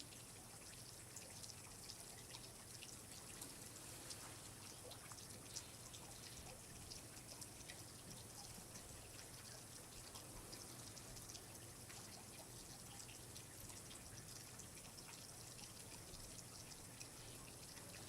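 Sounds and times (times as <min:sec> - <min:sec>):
faint trickling water: 0:00.0 - 0:18.0
light water drips: 0:00.0 - 0:18.0.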